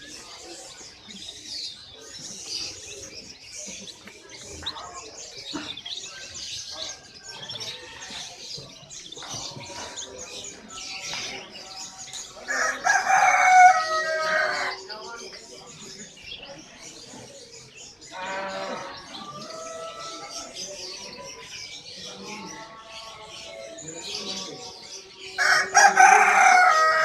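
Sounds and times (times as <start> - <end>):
songbirds chirping and twittering: 0.0 - 27.0.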